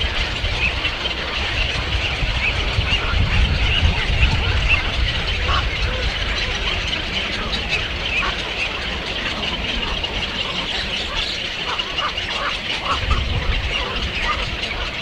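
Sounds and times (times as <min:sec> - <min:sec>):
many birds chirping: 0:00.0 - 0:15.0.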